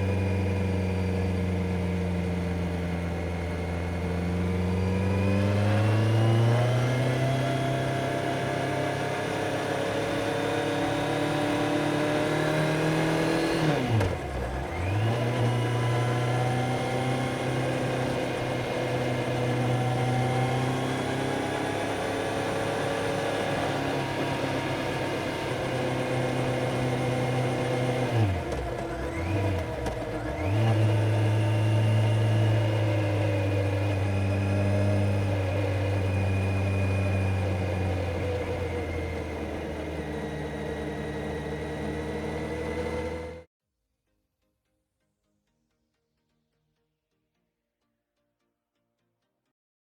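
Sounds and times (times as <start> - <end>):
motorcycle engine revving: 0.0 - 43.5.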